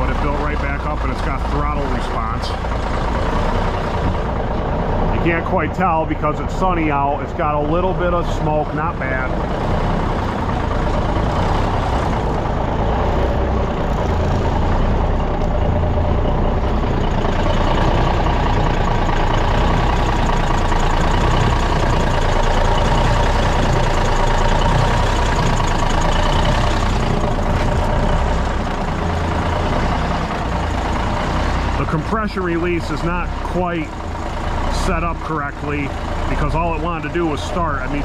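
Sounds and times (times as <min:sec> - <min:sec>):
diesel truck engine running: 0:00.0 - 0:38.0
steady engine whine: 0:00.0 - 0:38.0.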